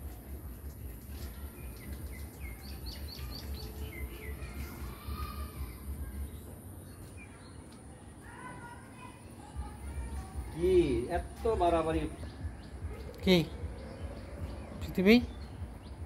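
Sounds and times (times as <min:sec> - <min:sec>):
bird chirping: 0:00.0 - 0:07.8, 0:09.7 - 0:16.0.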